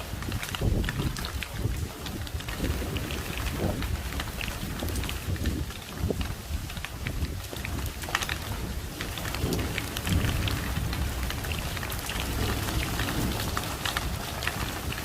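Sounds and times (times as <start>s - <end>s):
marbles rumbling down run: 0.0s - 15.0s.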